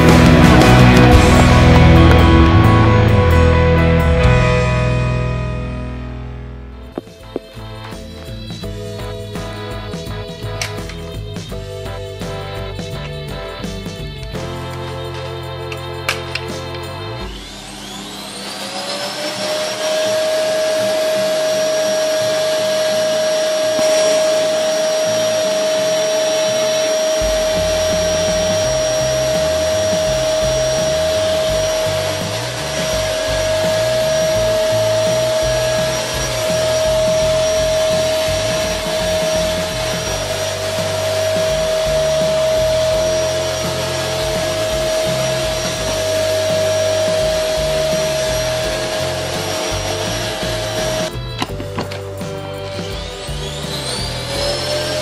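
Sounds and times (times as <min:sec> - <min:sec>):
appliance motor whining: 0:00.0 - 0:04.7, 0:06.8 - 0:55.0.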